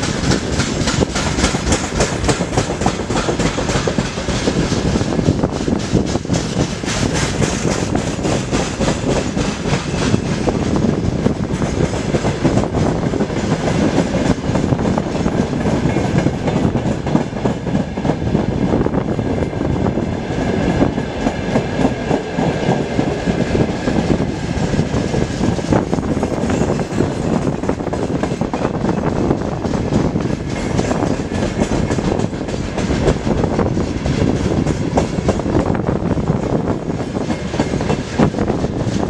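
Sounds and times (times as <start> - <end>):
freight train wheels rumbling: 0.0 - 39.0
wheels clicking over rail joints: 0.0 - 39.0.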